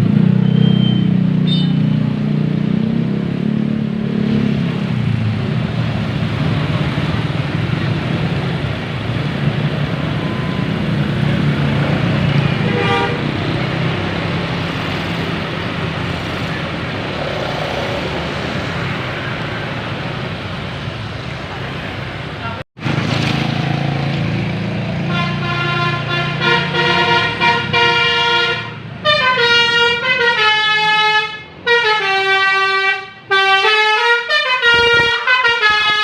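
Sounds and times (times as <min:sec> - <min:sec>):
bus and road traffic noise: 0:00.0 - 0:36.0.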